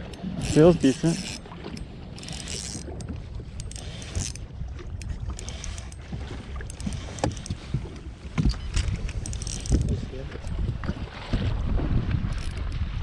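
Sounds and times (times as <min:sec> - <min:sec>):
water slapping against boat hull: 0:00.0 - 0:13.0
wind on microphone: 0:00.0 - 0:13.0.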